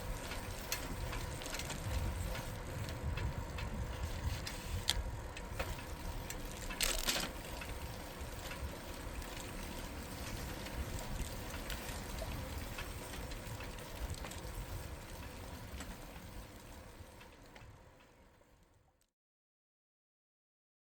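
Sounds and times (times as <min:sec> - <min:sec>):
bicycle tires rolling: 0:00.0 - 0:19.1.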